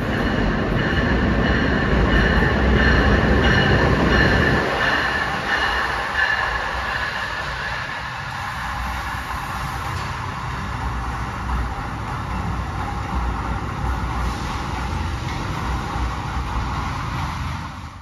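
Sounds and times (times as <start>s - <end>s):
rolling noise hiss: 0.0s - 18.0s
train wheels rumbling on rail: 0.0s - 18.0s.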